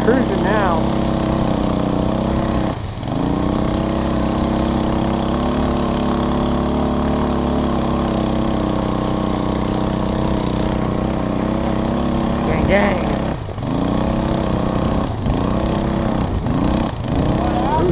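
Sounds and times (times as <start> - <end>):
atv engine under throttle: 0.0 - 17.9.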